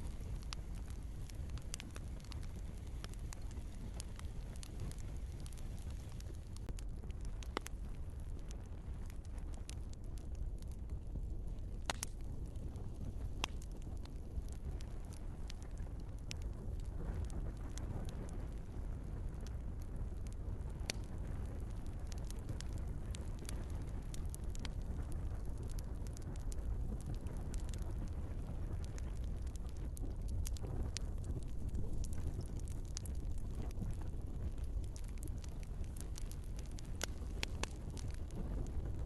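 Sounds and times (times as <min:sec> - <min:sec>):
sharp pops from fire: 0:00.0 - 0:39.0
wood fire crackling: 0:00.0 - 0:39.0.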